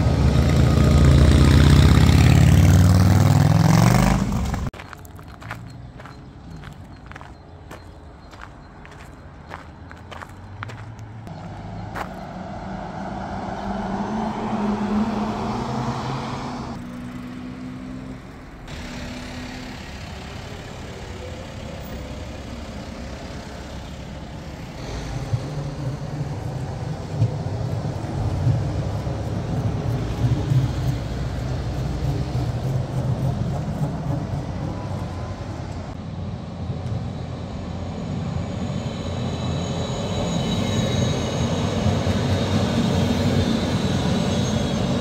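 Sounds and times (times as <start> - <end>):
tram rumbling on rails: 0.0 - 17.2, 18.3 - 45.0
vehicle hum passing: 0.0 - 38.5.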